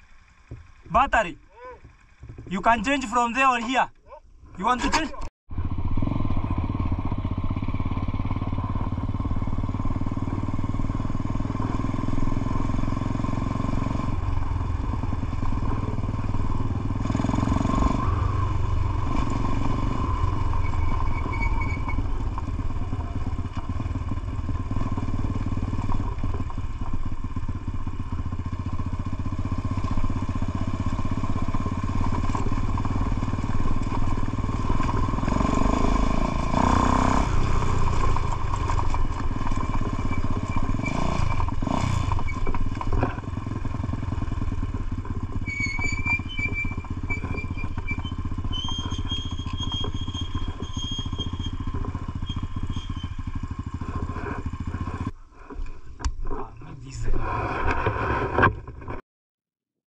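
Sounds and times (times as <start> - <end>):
motorcycle engine running: 0.0 - 56.5.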